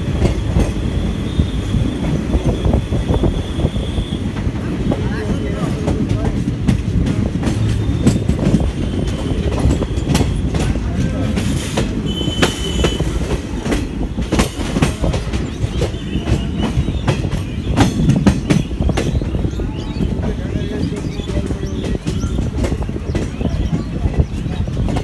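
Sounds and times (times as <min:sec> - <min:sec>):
train rumbling: 0:00.0 - 0:25.0
wheels clicking over rail joints: 0:00.0 - 0:25.0.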